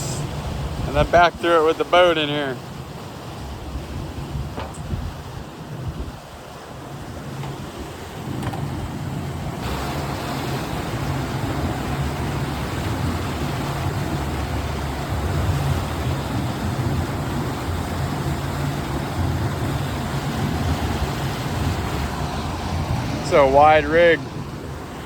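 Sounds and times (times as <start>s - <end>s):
boat engine rumbling: 0.0s - 25.0s
rush of wind and water: 0.0s - 25.0s.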